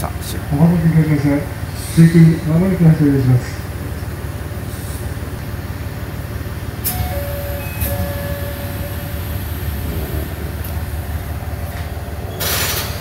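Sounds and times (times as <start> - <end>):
diesel railcar idling: 0.0 - 13.0.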